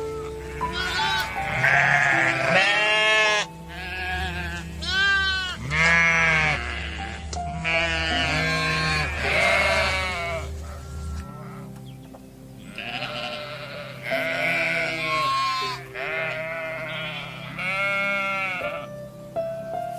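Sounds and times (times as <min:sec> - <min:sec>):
sheep bleating: 0:00.2 - 0:11.7, 0:12.6 - 0:19.0.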